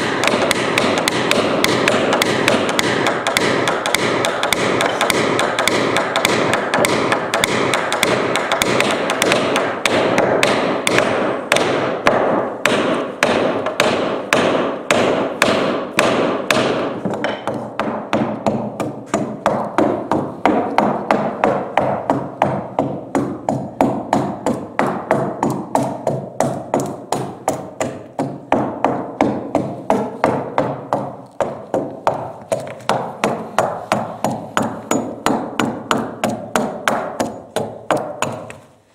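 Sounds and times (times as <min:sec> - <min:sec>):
adze chopping wooden plank: 0:00.0 - 0:38.7
hammer tapping wooden plugs: 0:00.0 - 0:38.7.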